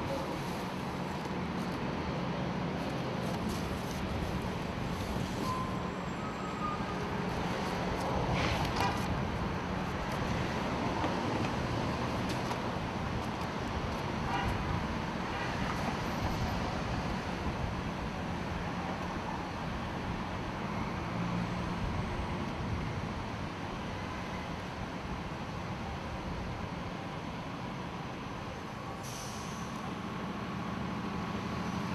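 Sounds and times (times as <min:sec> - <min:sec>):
cars passing on street: 0:00.0 - 0:31.9.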